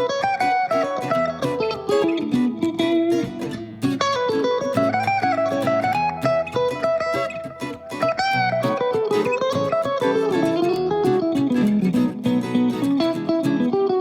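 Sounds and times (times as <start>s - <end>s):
plucked guitar melody: 0.0s - 14.0s.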